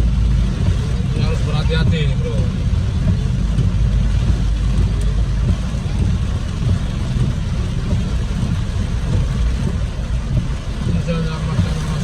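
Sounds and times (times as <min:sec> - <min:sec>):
rain and wet tyres hissing: 0:00.0 - 0:12.0
road and engine rumble: 0:00.0 - 0:12.0.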